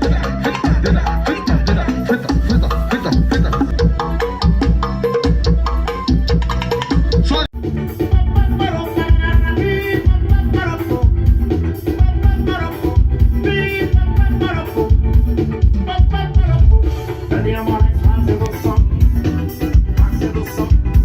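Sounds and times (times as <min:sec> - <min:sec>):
sung vocals: 0:00.0 - 0:03.7, 0:07.1 - 0:21.0
heavy bass beat: 0:00.0 - 0:21.0.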